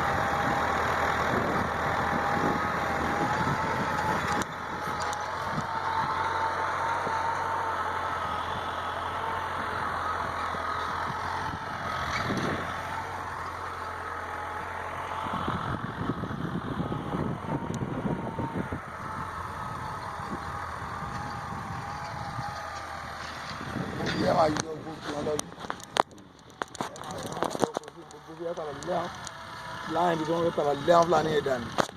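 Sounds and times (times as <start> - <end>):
engine running with high whine: 0.0 - 31.9.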